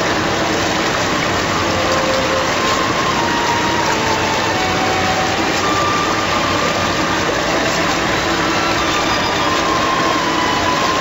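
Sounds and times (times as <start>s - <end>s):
steady machine drone: 0.0s - 11.0s
water churning and splashing: 0.0s - 11.0s.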